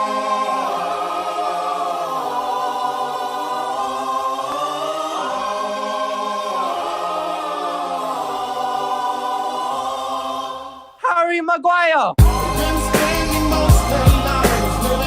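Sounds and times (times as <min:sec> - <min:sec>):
choir singing held chords: 0:00.0 - 0:11.0, 0:12.2 - 0:15.0.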